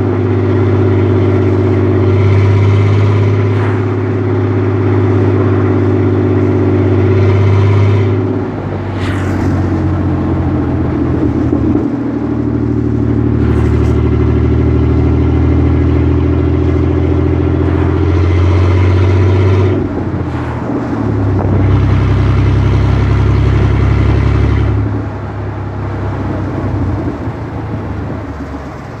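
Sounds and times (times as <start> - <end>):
car engine pulling hard: 0.0 - 29.0.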